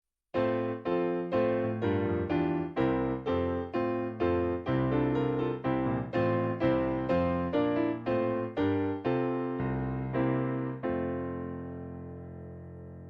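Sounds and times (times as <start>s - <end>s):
piano playing slow chords: 0.4s - 13.0s.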